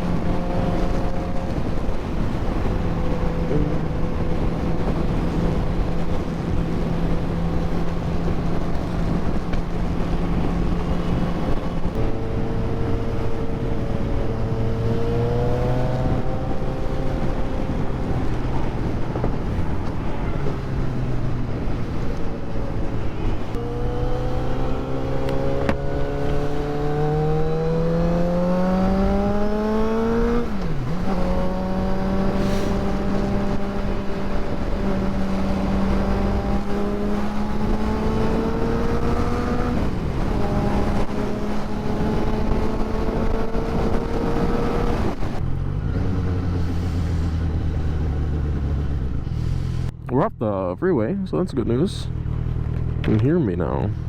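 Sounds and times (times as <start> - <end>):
wind rush: 0.0 - 50.0
motorcycle engine accelerating: 0.0 - 50.4, 51.0 - 54.0.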